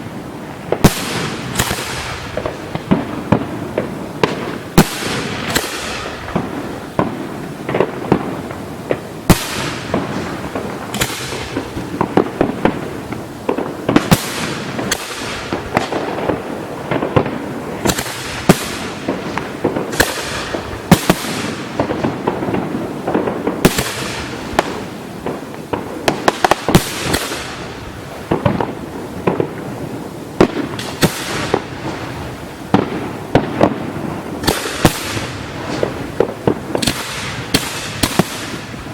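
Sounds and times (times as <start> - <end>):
fireworks crackling: 0.0 - 38.9
loud fireworks bangs: 0.0 - 38.9
fireworks shells bursting: 0.7 - 29.7, 30.4 - 38.9.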